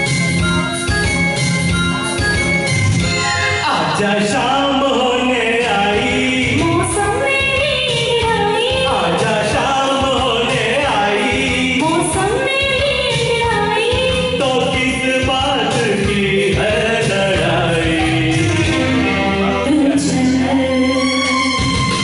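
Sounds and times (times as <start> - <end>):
recorded backing track: 0.0 - 22.0
man and woman singing a duet: 3.8 - 21.9.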